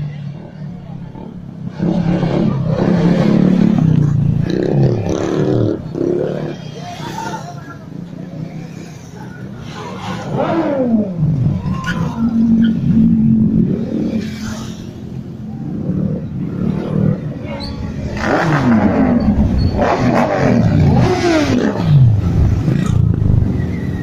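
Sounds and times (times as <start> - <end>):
motorcycles passing by: 0.0 - 24.0.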